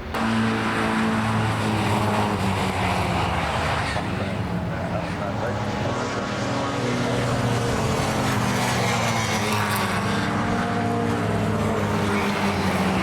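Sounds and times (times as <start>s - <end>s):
racing car engines passing: 0.0s - 13.0s.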